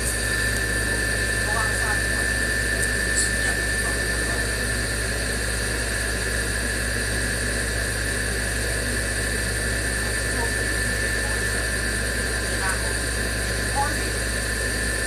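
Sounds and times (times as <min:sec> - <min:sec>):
high-pitched whine: 0:00.0 - 0:15.0
machine hum: 0:00.0 - 0:15.0.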